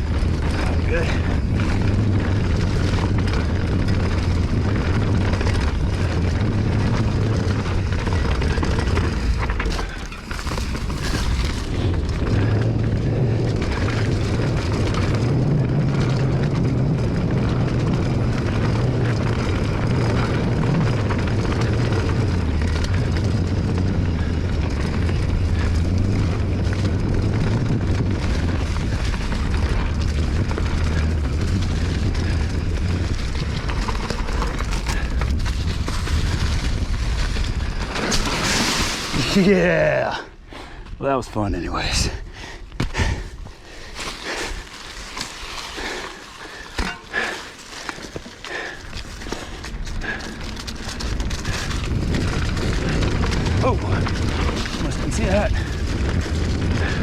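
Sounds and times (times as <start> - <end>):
bike rolling over rough trail: 0.0 - 57.0
wind buffeting microphone: 0.0 - 57.0.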